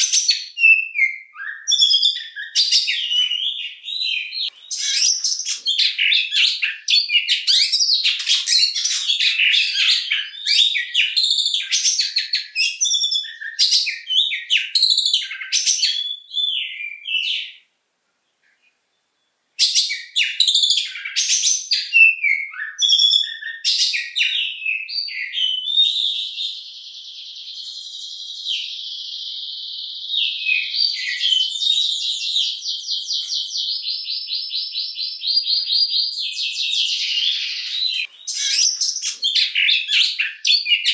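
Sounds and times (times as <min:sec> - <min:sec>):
bird singing whistled song: 0:00.0 - 0:17.7, 0:18.7 - 0:40.9.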